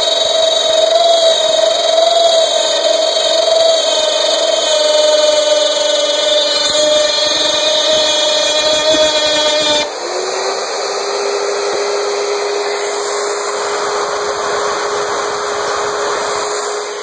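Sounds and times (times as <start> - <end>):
cnc router spindle whine: 0.0 - 17.0
shop vacuum rushing: 0.0 - 17.0.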